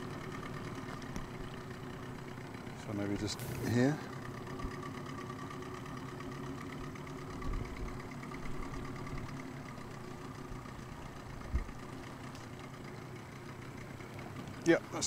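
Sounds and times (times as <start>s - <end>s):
outboard motor idling: 0.0s - 15.0s.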